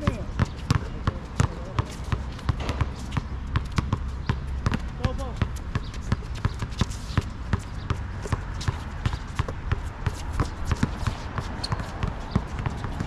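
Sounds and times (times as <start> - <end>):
basketball bouncing: 0.0 - 13.0
players' footsteps: 0.0 - 13.0.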